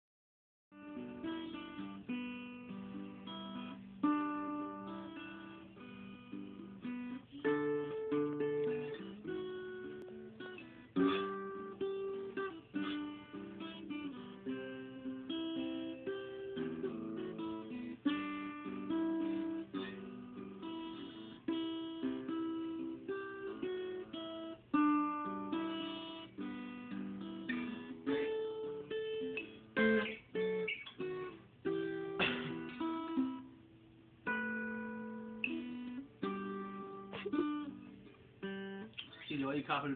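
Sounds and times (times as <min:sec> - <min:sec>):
acoustic guitar playing: 0:00.7 - 0:39.9.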